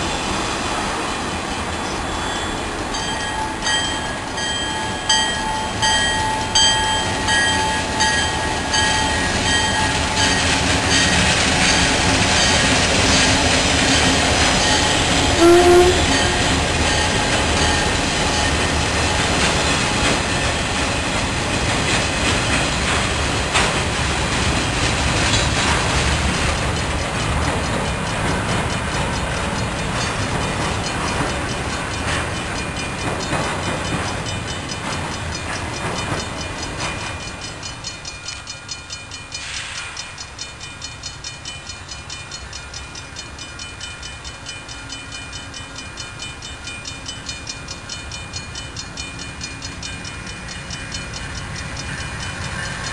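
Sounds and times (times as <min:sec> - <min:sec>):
train wheels clicking over rail joints: 0:00.0 - 0:52.9.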